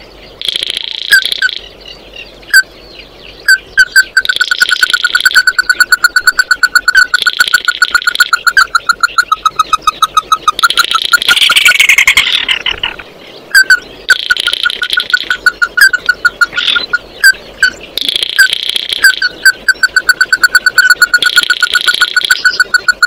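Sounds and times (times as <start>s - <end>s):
bird calling in sharp notes: 3.4s - 23.0s.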